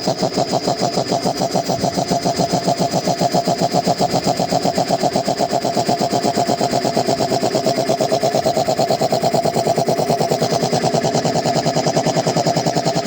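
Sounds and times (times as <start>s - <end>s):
air compressor pulsing: 0.0s - 13.0s.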